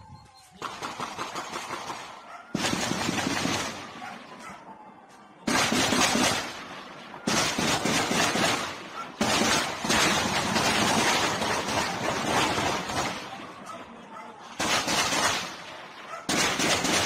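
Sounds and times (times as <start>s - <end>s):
rapid gunfire bursts: 0.6s - 4.1s, 5.5s - 13.7s, 14.6s - 17.0s.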